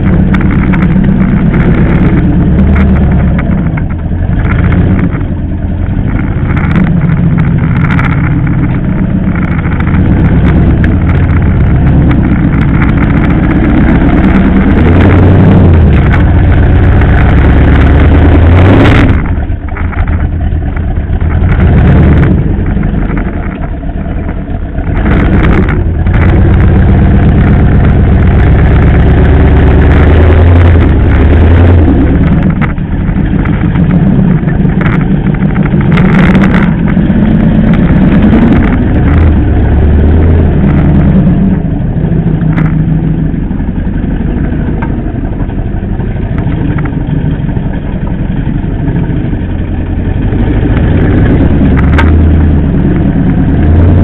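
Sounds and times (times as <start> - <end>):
engine hum with drivetrain: 0.0 - 54.0.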